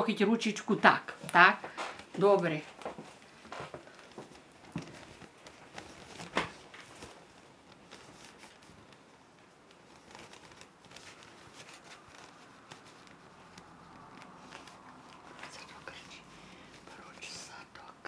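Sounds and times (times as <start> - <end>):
cloth rustling and crinkling: 0.0 - 17.9.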